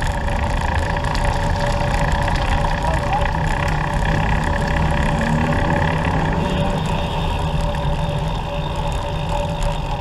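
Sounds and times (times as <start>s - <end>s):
road and rolling noise: 0.0s - 10.0s.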